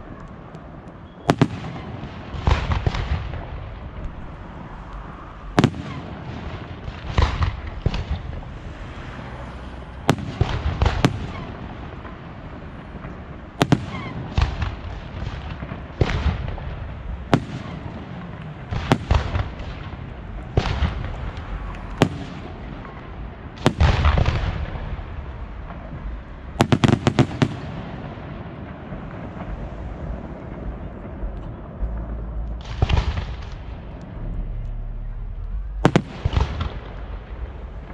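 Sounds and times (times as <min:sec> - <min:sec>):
fireworks bangs: 0:00.0 - 0:37.9
fireworks crackle: 0:00.0 - 0:37.9.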